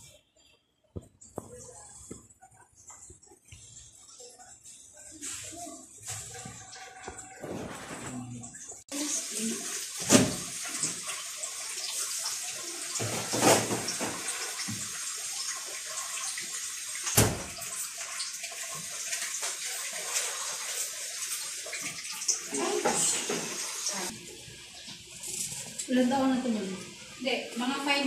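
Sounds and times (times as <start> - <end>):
water running into sink: 1.0 - 28.0.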